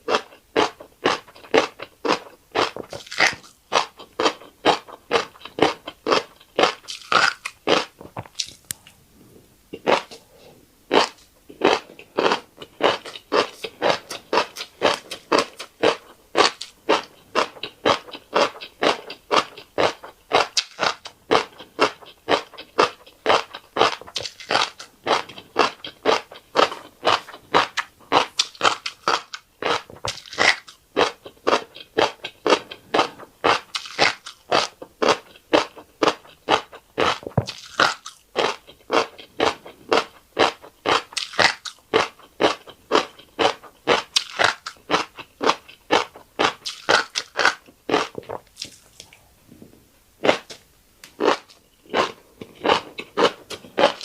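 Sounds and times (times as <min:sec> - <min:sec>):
close-up chewing: 0:00.0 - 0:09.0, 0:09.7 - 0:54.0.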